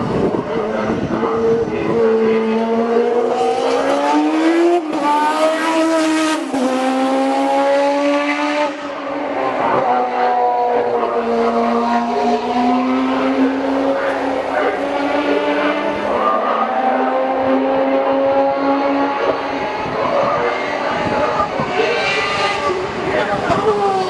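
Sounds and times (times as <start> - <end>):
racing car engines at high revs: 0.0 - 24.0.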